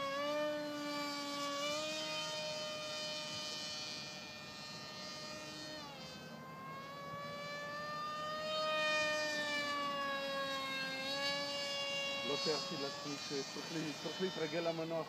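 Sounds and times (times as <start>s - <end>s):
model plane propeller whining: 0.0s - 15.0s.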